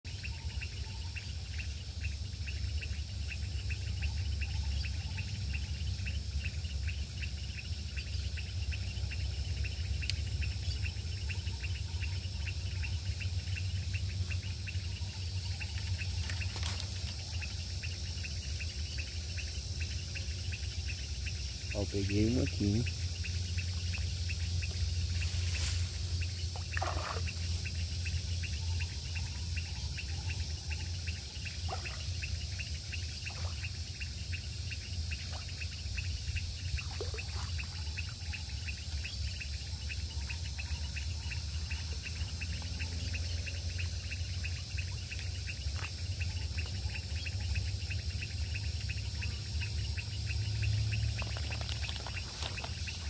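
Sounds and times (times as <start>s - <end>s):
insects trilling: 0.1s - 53.0s
steady low rumble: 0.4s - 53.0s.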